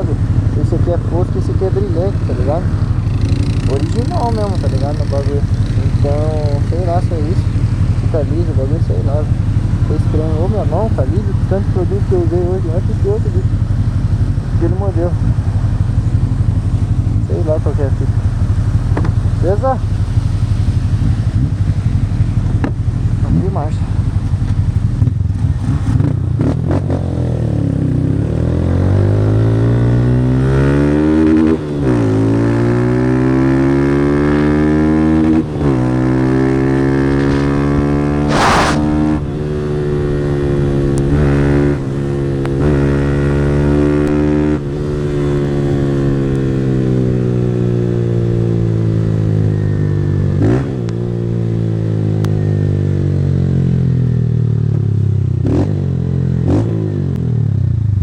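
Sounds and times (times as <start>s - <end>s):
motorcycle engine revving through gears: 0.0s - 58.0s.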